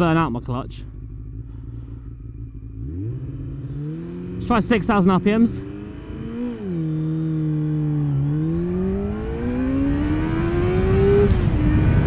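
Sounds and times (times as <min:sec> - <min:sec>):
motorcycle engine revving: 0:00.9 - 0:12.0.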